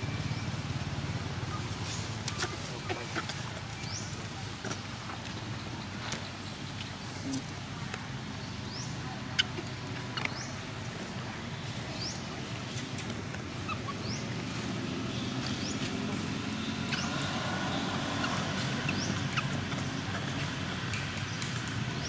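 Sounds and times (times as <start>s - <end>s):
outdoor background hum: 0.0s - 22.0s.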